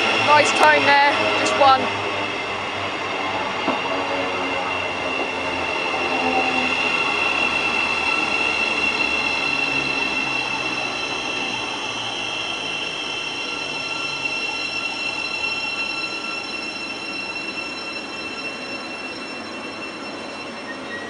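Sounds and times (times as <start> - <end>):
train motor whine: 0.0 - 21.0.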